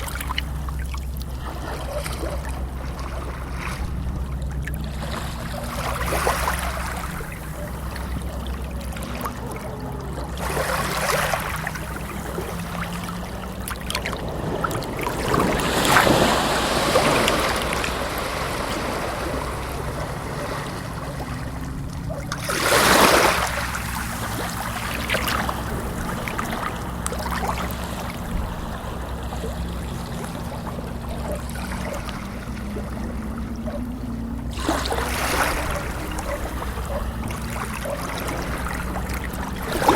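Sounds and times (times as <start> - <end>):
steady low rumble: 0.0 - 39.9
water washing in swells: 0.0 - 39.9.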